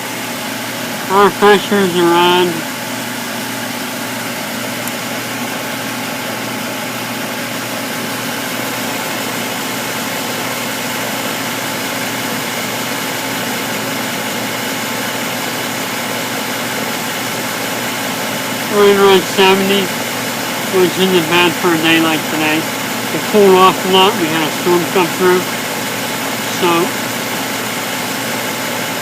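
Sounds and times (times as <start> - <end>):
air conditioning unit humming: 0.0 - 29.0.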